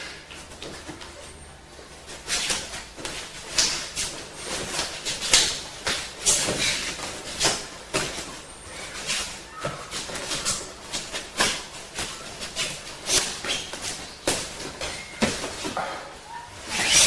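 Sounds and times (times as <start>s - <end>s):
feet shuffling on floor: 0.0s - 17.0s.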